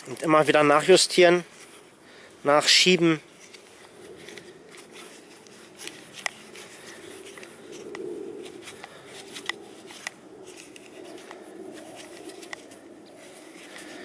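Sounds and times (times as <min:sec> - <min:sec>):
cord rubbing and rustling: 0:00.0 - 0:14.0.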